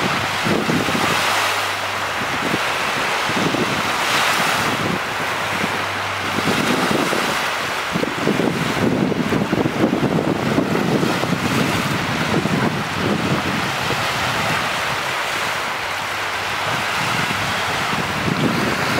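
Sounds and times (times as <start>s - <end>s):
waves washing up sandy beach: 0.0s - 18.9s
wind rumbling on microphone: 0.0s - 18.9s.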